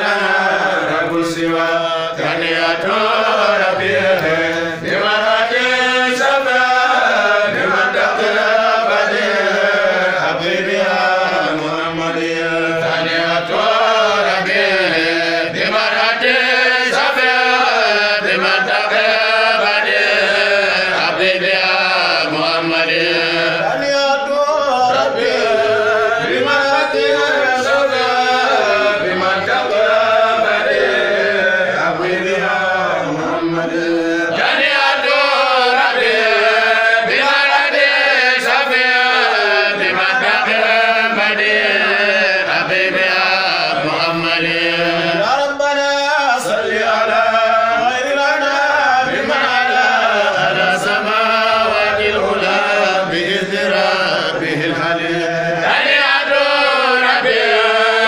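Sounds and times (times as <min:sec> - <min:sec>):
men chanting together: 0:00.0 - 0:58.0.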